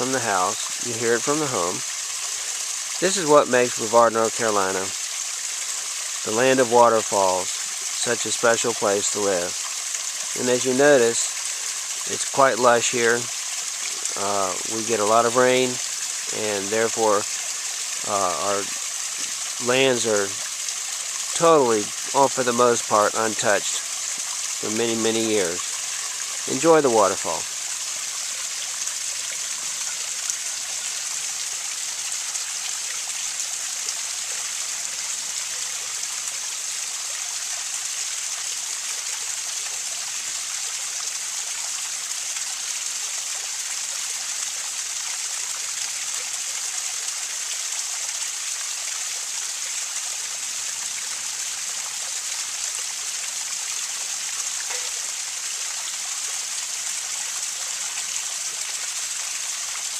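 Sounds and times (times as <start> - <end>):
small waterfall splashing: 0.0 - 59.9.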